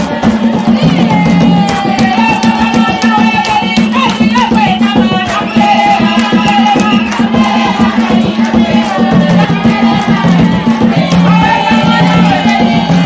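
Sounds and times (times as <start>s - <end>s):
hand drums beating: 0.0s - 13.0s
voices singing: 0.0s - 13.0s.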